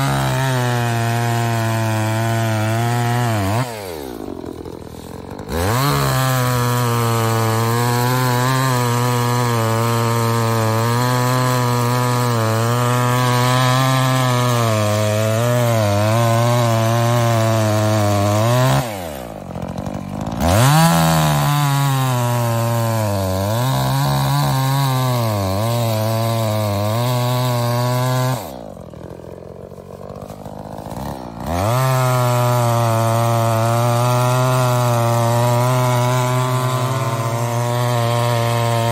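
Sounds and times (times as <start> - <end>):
chainsaw cutting logs: 0.0 - 38.9.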